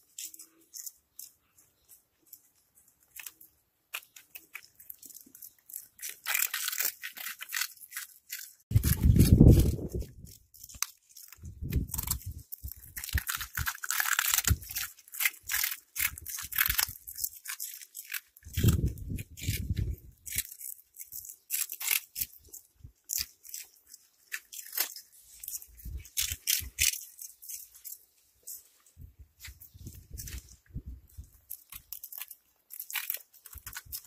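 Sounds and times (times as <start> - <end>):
cats chewing crunchy snacks: 0.0 - 28.8, 29.4 - 34.0.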